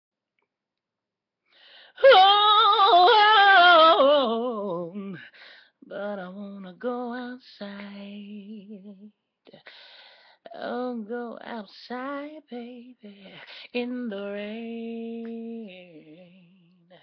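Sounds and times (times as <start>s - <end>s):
person singing unaccompanied: 2.0s - 9.1s, 10.5s - 17.0s.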